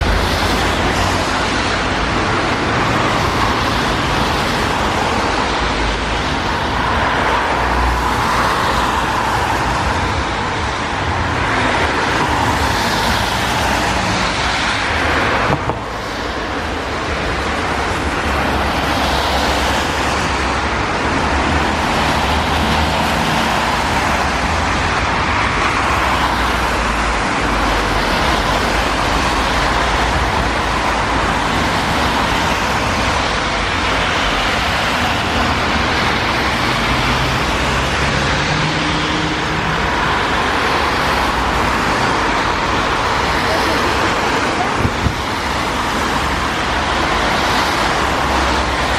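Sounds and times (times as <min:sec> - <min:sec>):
road traffic noise: 0:00.0 - 0:48.9.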